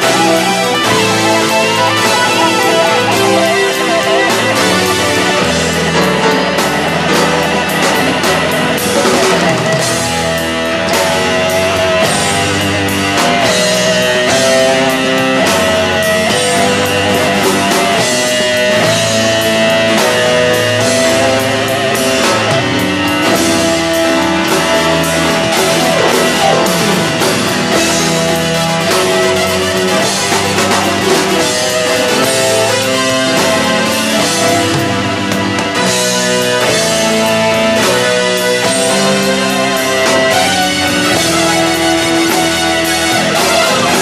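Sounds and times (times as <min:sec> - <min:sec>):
guitar melody: 0:00.0 - 0:44.0
rock band playing: 0:00.0 - 0:44.0.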